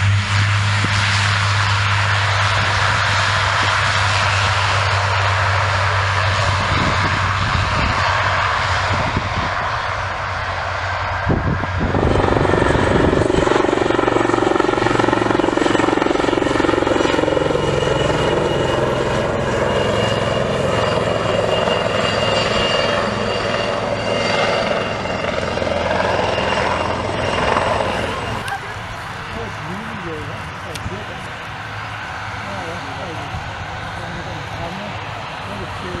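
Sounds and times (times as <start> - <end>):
helicopter flying low: 0.0 - 36.0
turboprop engines droning: 0.0 - 36.0.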